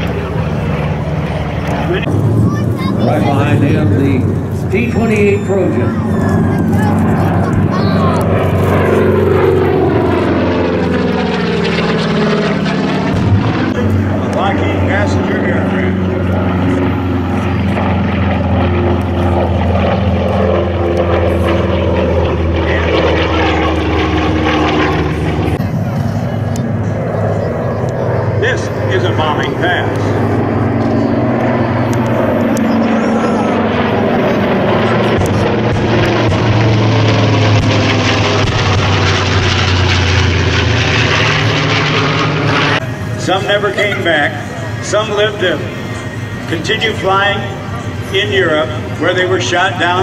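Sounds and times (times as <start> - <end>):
propeller plane droning past: 0.0 - 50.0.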